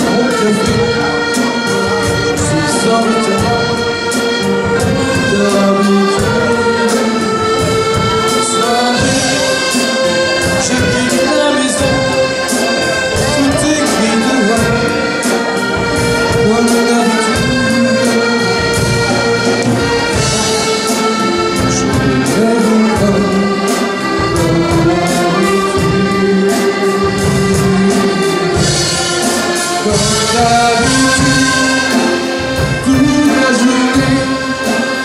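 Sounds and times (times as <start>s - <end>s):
accordion ensemble playing: 0.0s - 35.0s.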